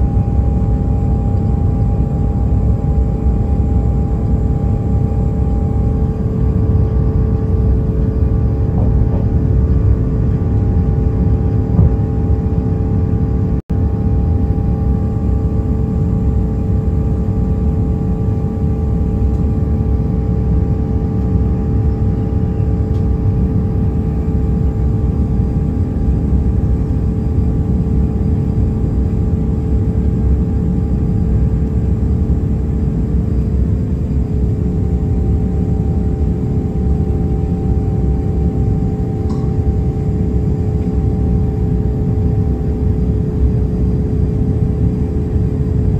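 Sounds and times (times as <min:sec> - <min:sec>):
jet engine roar: 0:00.0 - 0:45.9.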